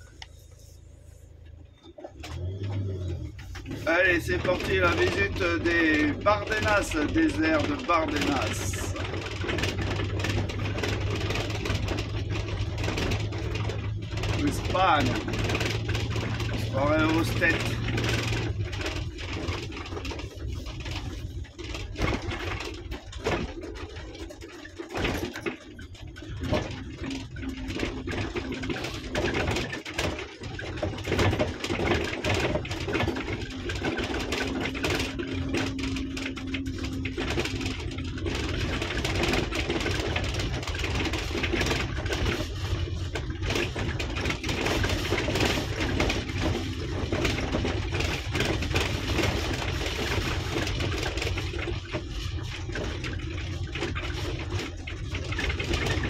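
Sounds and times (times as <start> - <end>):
car engine running: 0.0 - 56.0
knocks and rattles: 0.0 - 56.0
tyres rumbling on gravel: 0.0 - 56.0.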